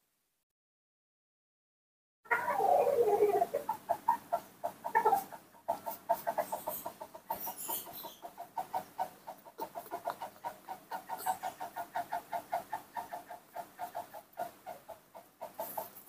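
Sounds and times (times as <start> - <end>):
animal clucking rapidly: 2.3 - 16.0.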